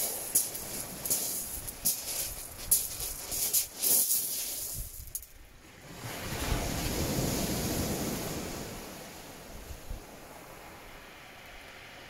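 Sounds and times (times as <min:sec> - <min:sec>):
surf washing up shingle beach: 0:00.0 - 0:12.0.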